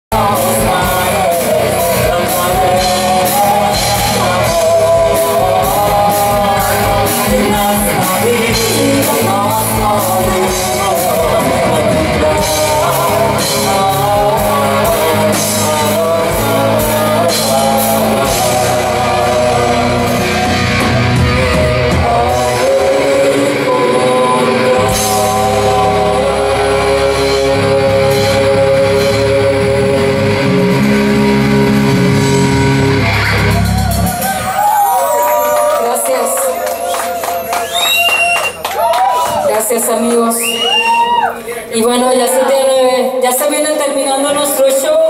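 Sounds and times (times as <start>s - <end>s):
live rock band playing: 0.1s - 45.0s.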